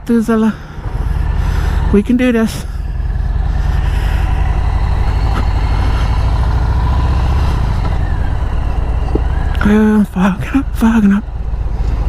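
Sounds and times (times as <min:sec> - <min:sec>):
motorcycle engine rumbling: 0:00.0 - 0:12.0
wind and road noise: 0:00.0 - 0:12.0.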